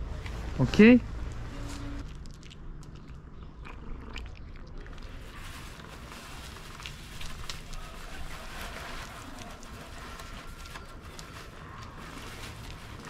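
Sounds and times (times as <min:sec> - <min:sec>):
cat crunching dry kibble: 0:02.0 - 0:13.0.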